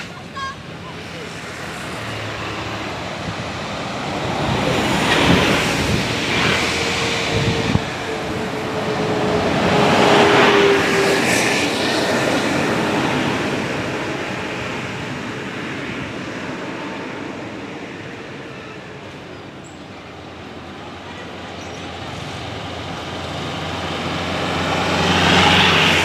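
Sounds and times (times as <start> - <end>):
bus driving past: 0.0 - 26.0.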